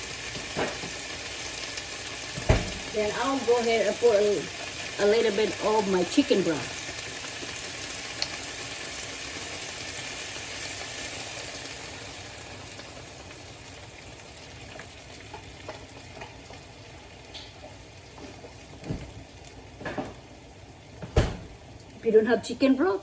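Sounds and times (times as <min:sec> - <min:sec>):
chicken sizzling in a frying pan: 0:00.0 - 0:23.0.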